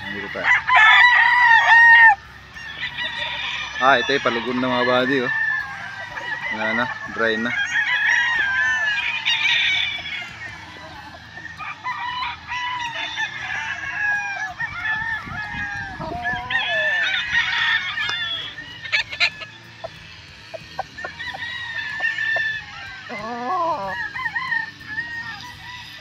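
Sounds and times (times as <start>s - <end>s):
close rooster calling: 0.0s - 10.7s, 11.6s - 26.0s
roosters crowing and clucking: 0.0s - 26.0s.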